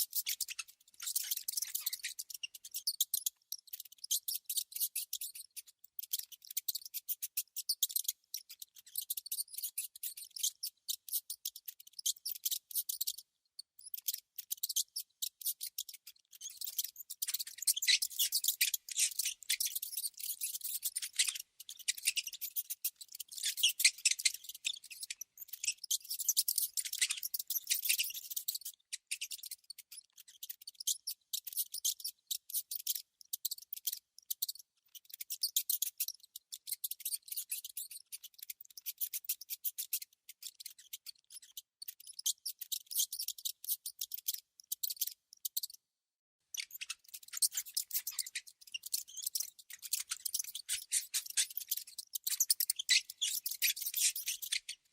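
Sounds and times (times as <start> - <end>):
rodents clicking and scratching: 0.0 - 13.2, 13.8 - 45.8, 46.5 - 54.9.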